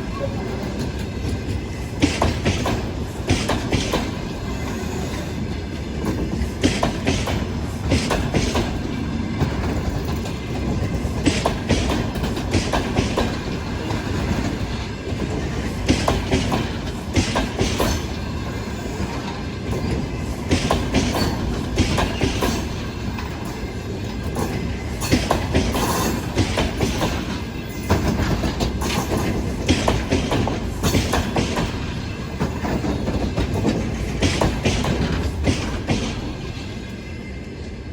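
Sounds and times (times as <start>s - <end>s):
train wheels clattering over rail joints: 0.0s - 37.3s
train rumble: 0.0s - 37.9s.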